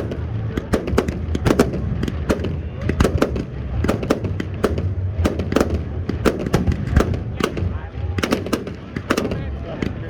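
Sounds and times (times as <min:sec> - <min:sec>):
fireworks bangs: 0:00.0 - 0:10.0
low rumble: 0:00.0 - 0:10.0.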